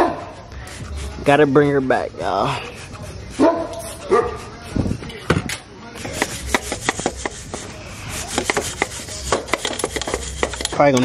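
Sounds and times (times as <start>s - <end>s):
stiff brush scrubbing: 0.5s - 5.1s, 6.0s - 11.0s.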